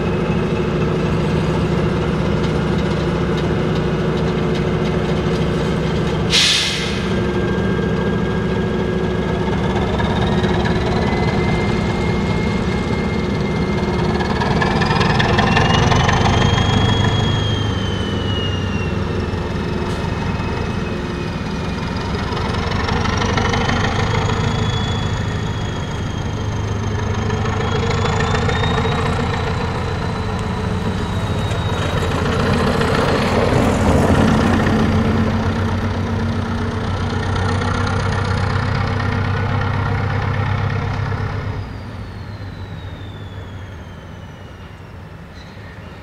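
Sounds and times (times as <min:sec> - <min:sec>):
diesel locomotive engine throbbing: 0:00.0 - 0:46.0.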